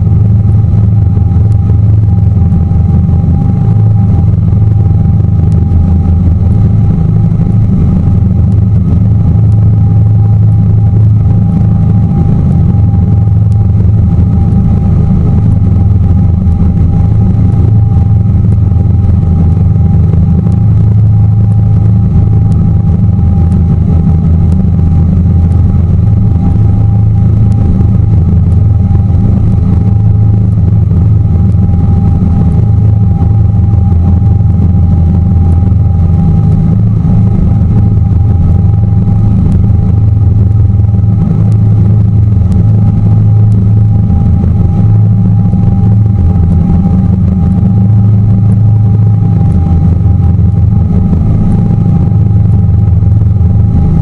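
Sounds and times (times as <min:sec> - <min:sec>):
boat engine droning: 0:00.0 - 0:54.0
thin steady whine: 0:00.0 - 0:54.0.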